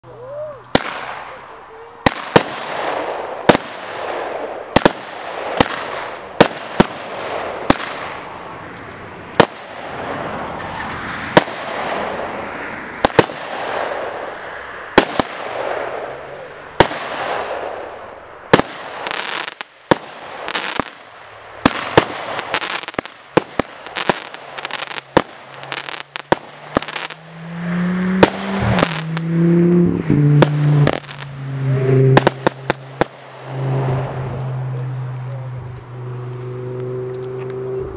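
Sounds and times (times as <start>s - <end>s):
firework crackling: 0.6s - 29.3s, 30.3s - 35.6s
firework shots hissing: 0.7s - 27.3s, 28.2s - 29.3s, 30.4s - 31.4s, 32.1s - 34.4s
firework bangs: 0.7s - 29.4s, 30.1s - 34.5s.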